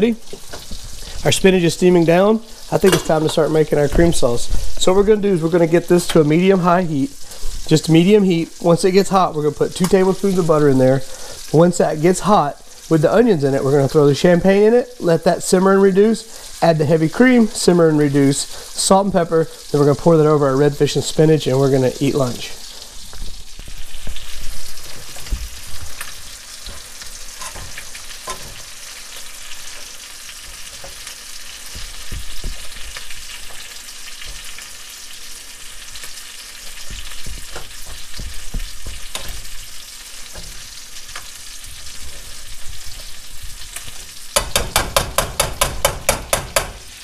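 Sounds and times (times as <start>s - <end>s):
food sizzling in a pot: 0.0s - 47.0s.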